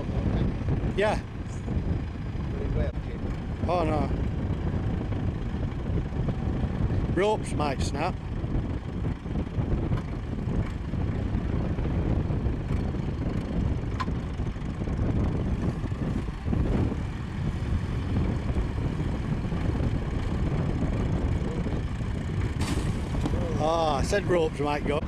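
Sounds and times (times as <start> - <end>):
towing vehicle engine running: 0.0 - 25.0.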